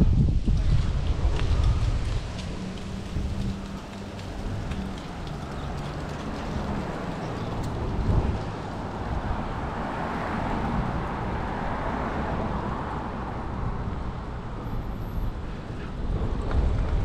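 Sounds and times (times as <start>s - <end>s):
street traffic noise: 0.0s - 17.0s
wind rumbling on microphone: 0.0s - 17.0s
vehicle passing: 0.6s - 17.0s.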